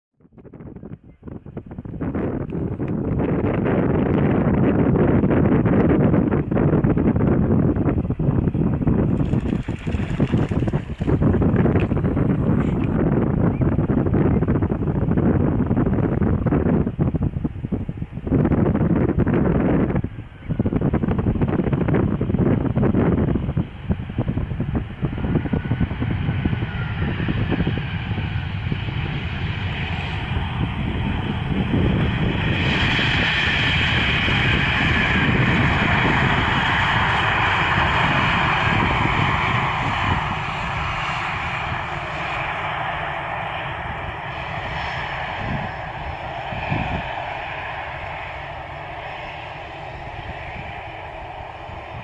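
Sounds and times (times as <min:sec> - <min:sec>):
wind buffeting microphone: 0:00.2 - 0:52.0
jet engines rushing: 0:00.6 - 0:52.0.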